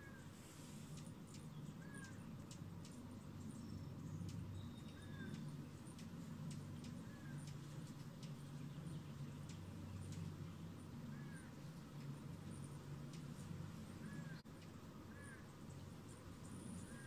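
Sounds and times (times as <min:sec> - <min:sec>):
hummingbird wings humming: 0:00.0 - 0:17.0
faint ticks: 0:00.7 - 0:15.3.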